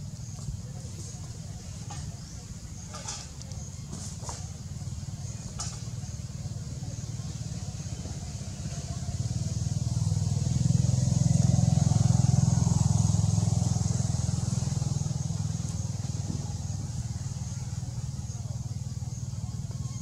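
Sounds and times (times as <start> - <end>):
vehicle engine passing by: 0.0 - 20.0.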